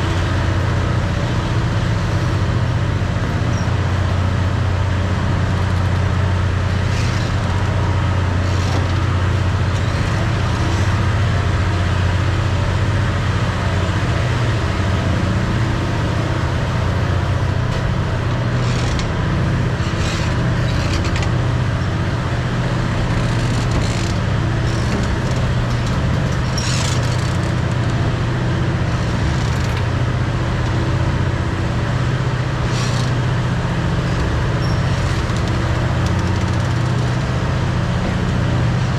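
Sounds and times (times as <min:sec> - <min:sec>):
train engine drone: 0:00.0 - 0:38.9.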